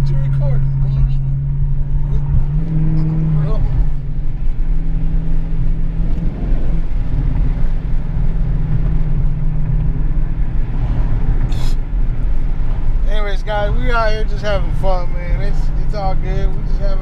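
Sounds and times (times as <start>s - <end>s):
car engine drone from inside: 0.0s - 17.0s.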